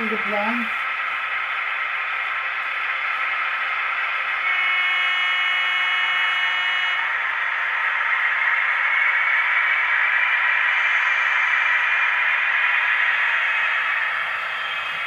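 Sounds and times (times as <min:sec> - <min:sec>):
model train motor whine: 0:00.0 - 0:15.0
model train wheels rolling on rail: 0:00.0 - 0:15.0.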